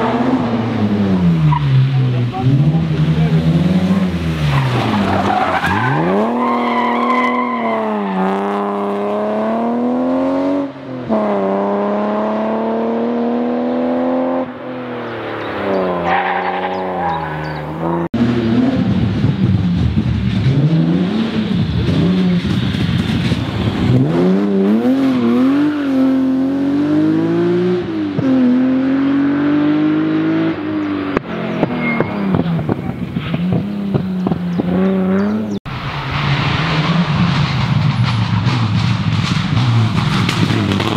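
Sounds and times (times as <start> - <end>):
rally car accelerating: 0.0 - 40.9
rally car engine revving: 0.0 - 40.9.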